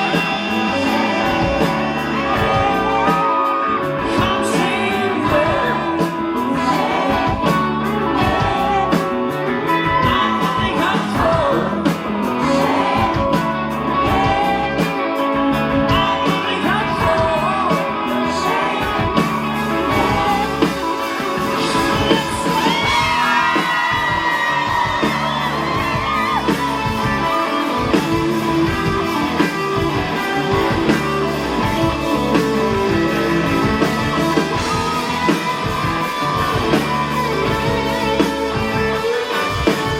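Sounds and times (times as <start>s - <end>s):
bass: 0.0s - 39.9s
drums: 0.0s - 39.9s
electric guitars: 0.0s - 39.9s
person singing: 0.0s - 39.9s.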